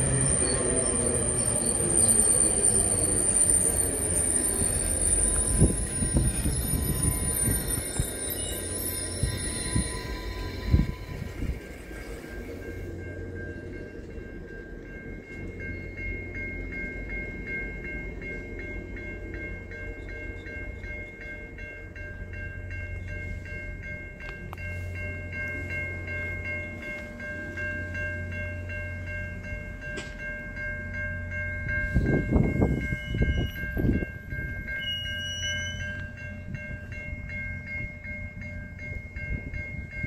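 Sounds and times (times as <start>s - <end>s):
level-crossing warning bell: 0.0s - 40.0s
train wheels rumbling on rails: 0.0s - 40.0s.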